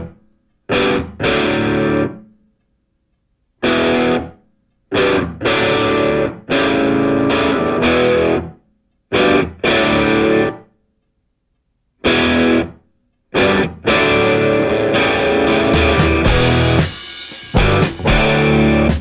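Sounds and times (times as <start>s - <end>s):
distorted electric guitar chords: 0.0s - 2.3s, 3.6s - 10.6s, 12.0s - 12.8s, 13.4s - 19.0s.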